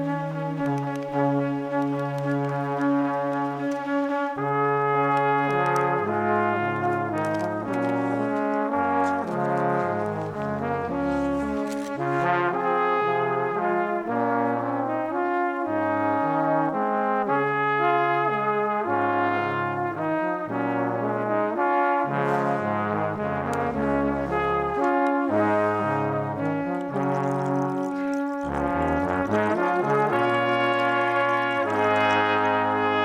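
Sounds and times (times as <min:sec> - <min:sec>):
brass music with bass line: 0:00.0 - 0:33.0.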